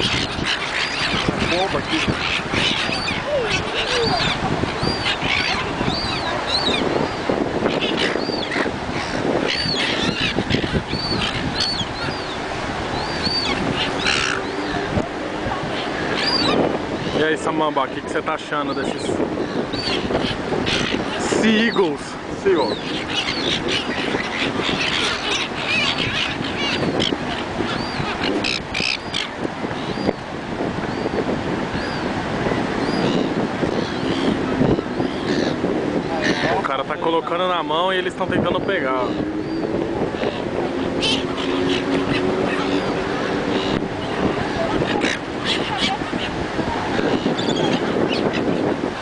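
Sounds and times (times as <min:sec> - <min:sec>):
gulls calling: 0:00.0 - 0:49.0
surf: 0:00.0 - 0:49.0
wind: 0:00.0 - 0:49.0.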